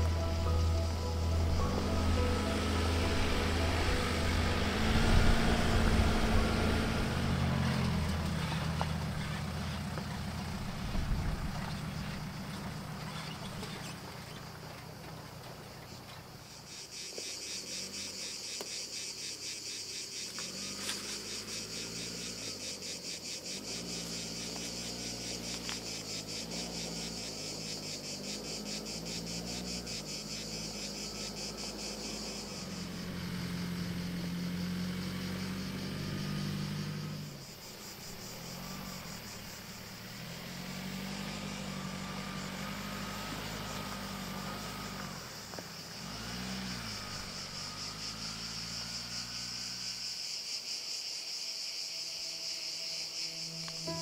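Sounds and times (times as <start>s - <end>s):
insects chirring: 0.0s - 54.0s
vehicle engine hum: 0.0s - 54.0s.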